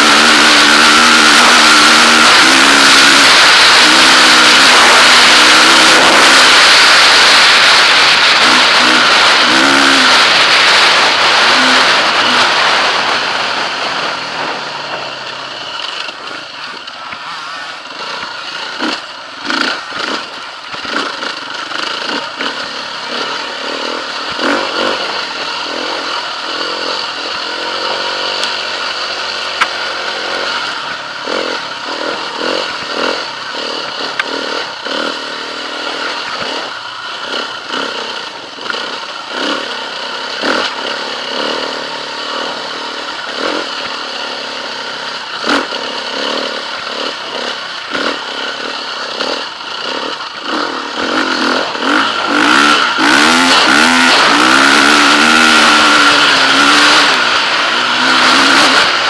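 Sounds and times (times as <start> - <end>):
motorcycle engine revving: 0.0 - 59.0
motorcycle rattling over rough ground: 0.0 - 59.0.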